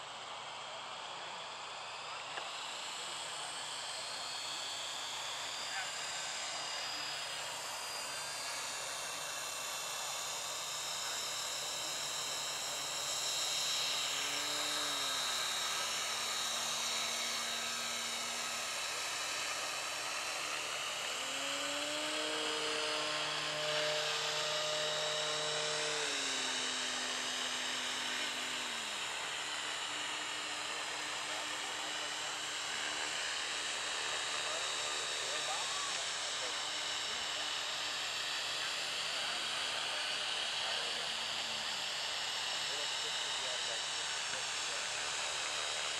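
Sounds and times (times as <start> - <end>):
model airplane motor whining: 0.0 - 45.9.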